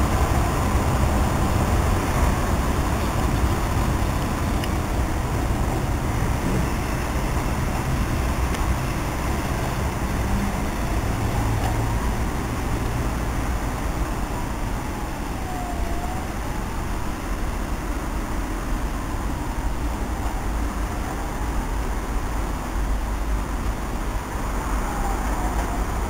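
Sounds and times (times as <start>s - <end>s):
train rumbling on tracks: 0.0s - 26.0s.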